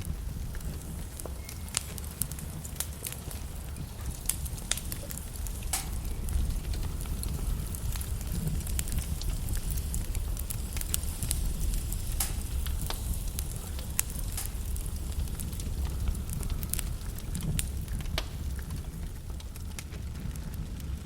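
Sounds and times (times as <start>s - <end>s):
logs crackling in fireplace: 0.0s - 21.0s
low rumble of flames: 0.0s - 21.0s
sharp pops from fire: 0.0s - 21.0s.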